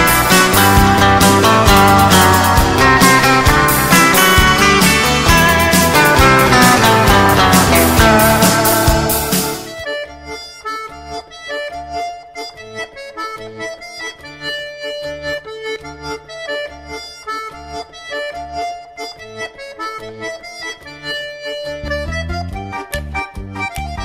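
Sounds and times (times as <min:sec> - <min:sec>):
accordion dance tune: 0:00.0 - 0:24.0.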